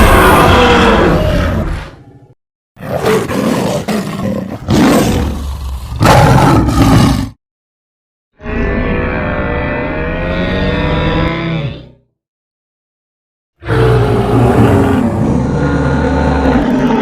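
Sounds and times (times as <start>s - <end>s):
animal roaring: 0.0s - 7.4s, 8.4s - 12.0s, 13.6s - 17.0s.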